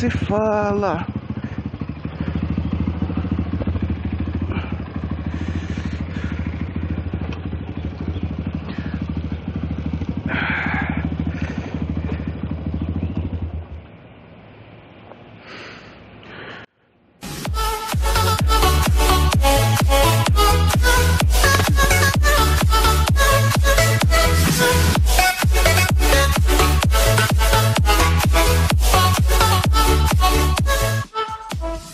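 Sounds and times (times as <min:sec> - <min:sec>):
small motorcycle engine running: 0:00.0 - 0:15.9, 0:17.9 - 0:31.0.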